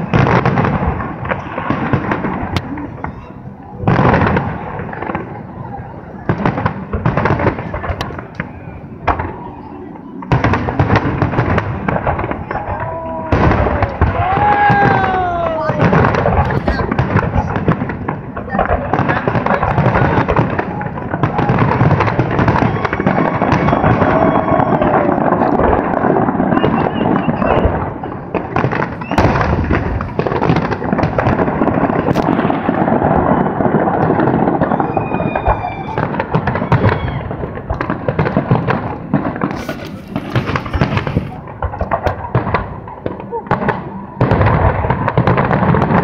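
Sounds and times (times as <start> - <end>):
fireworks booming and crackling: 0.0 - 46.0.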